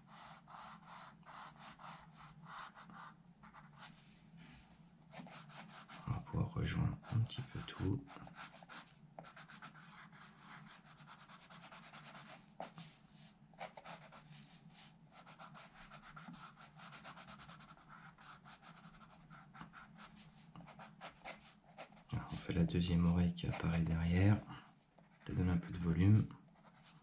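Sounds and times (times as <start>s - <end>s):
pencil scratching on paper: 0.0s - 4.0s, 5.1s - 6.2s, 7.0s - 13.0s, 13.6s - 24.0s, 26.6s - 27.0s.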